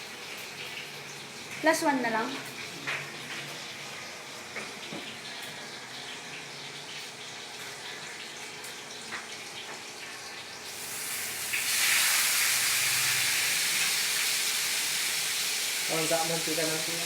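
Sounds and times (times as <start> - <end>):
fish sizzling in hot oil: 0.0 - 17.0
small ticks of frying: 0.0 - 17.0.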